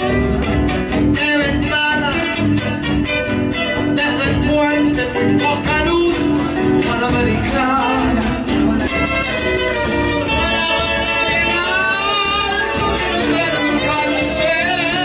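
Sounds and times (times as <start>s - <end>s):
guitar accompaniment: 0.0s - 15.0s
person singing folk song: 0.0s - 15.0s.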